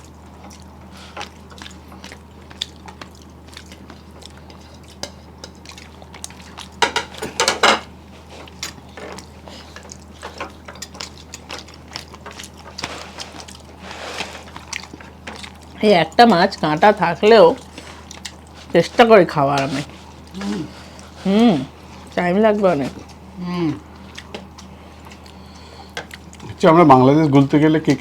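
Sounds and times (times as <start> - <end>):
low steady hum: 0.0 - 28.0
eating mouth and plate noises: 0.2 - 28.0.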